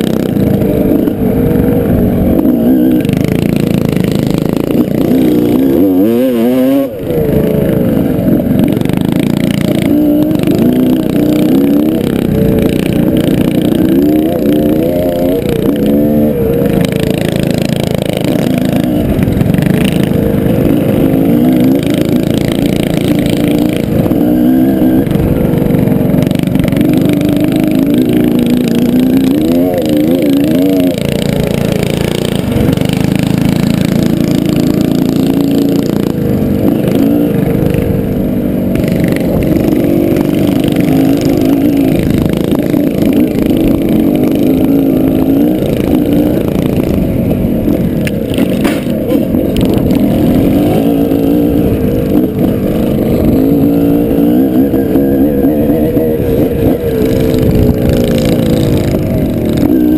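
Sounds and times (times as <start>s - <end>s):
mini bike engine revving: 0.0s - 59.9s.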